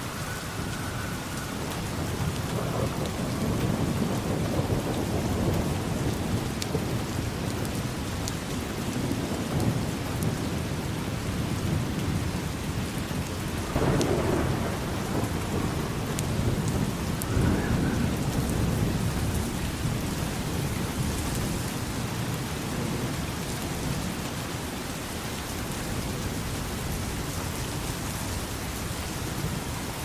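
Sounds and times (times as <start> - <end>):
thunder rumbling: 0.0 - 24.2
steady rain falling: 0.0 - 30.0.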